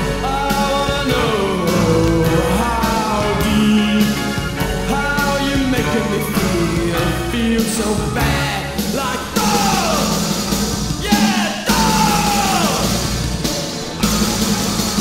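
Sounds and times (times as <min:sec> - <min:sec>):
bending electric guitar notes: 0:00.0 - 0:15.0
rock band playing: 0:00.0 - 0:15.0.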